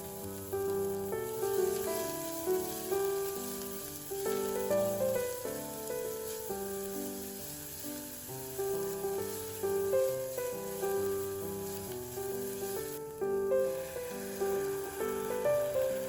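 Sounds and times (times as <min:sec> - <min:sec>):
food sizzling in a pan: 0:00.0 - 0:16.0
instrumental music: 0:00.0 - 0:16.0.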